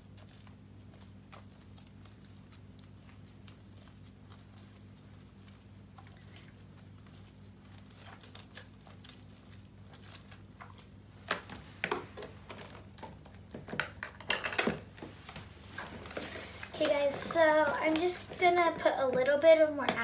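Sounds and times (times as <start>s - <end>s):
slime squishing: 0.0s - 20.0s.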